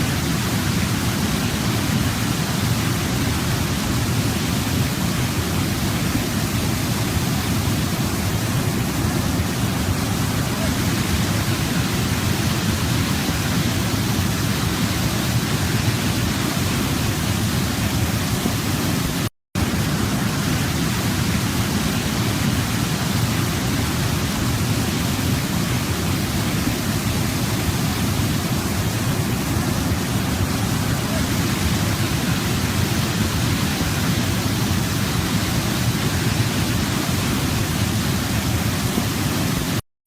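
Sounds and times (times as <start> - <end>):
waterfall rushing: 0.0 - 39.8.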